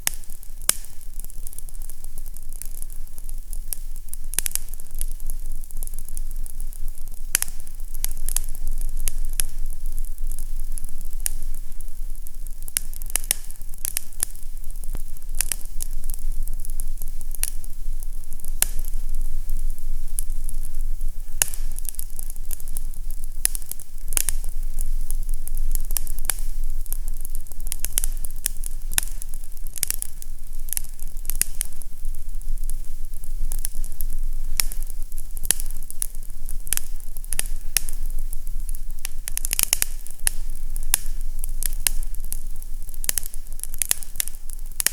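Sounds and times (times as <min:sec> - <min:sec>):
fireplace fire crackling: 0:00.0 - 0:44.9.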